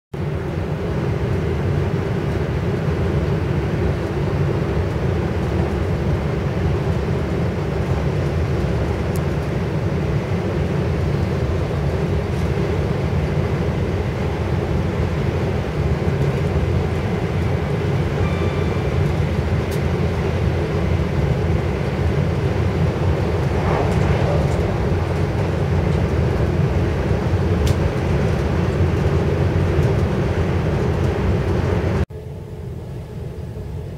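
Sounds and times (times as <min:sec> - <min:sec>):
train running rumble: 0:00.2 - 0:32.0.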